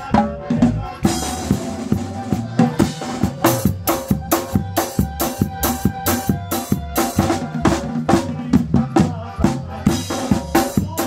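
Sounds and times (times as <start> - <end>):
bass drum and snare beat: 0.0 - 11.0.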